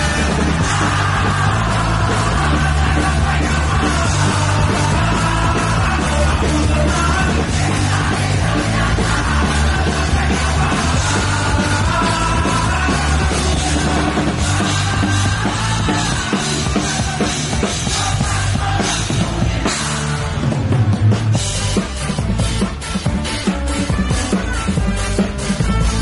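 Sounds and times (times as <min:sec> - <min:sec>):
bass guitar: 0:00.0 - 0:26.0
drum kit: 0:00.0 - 0:26.0
electric guitars: 0:00.0 - 0:26.0
ska band playing live: 0:00.0 - 0:26.0.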